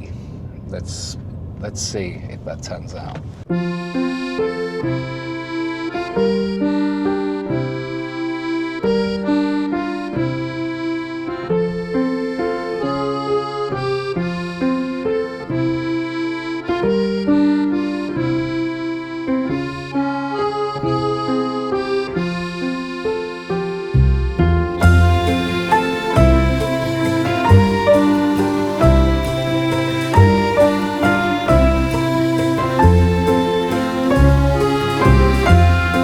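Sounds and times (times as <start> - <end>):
accordion tune: 3.5 - 36.0.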